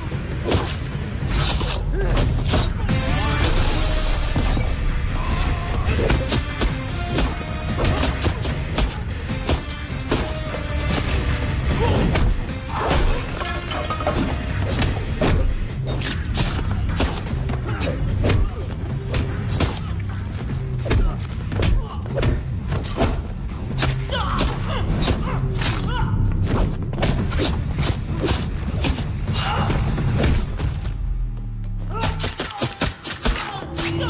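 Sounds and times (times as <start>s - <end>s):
loud background music: 0.0s - 34.0s.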